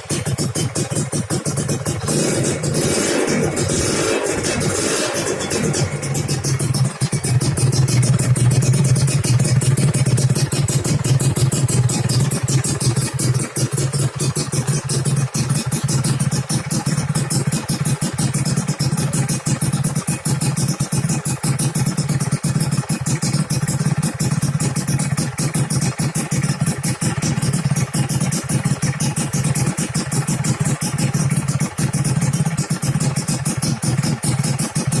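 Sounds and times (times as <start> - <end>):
two-stroke motorcycle engine idling: 0.0 - 35.0.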